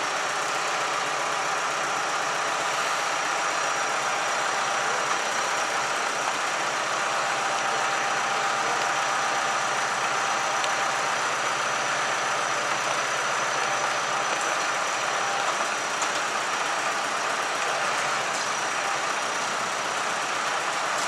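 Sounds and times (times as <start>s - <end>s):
bonfire burning: 0.0s - 21.0s.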